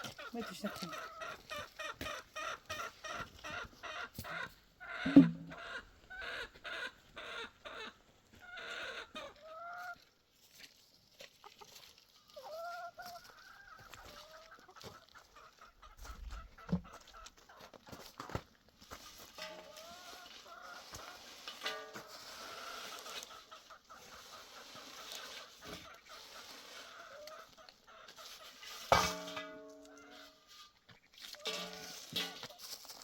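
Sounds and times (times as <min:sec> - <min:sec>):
chickens clucking: 0:00.0 - 0:10.3, 0:11.0 - 0:33.0.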